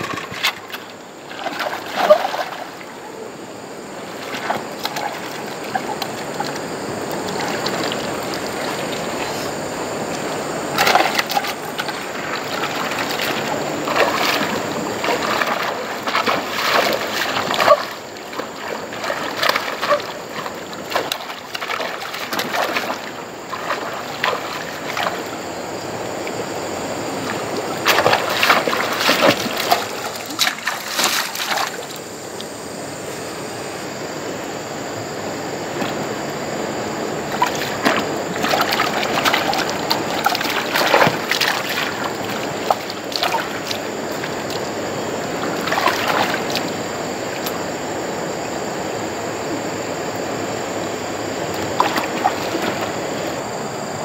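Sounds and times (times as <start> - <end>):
water sloshing and splashing: 0.0 - 33.8, 34.9 - 54.0
running water: 0.0 - 54.0.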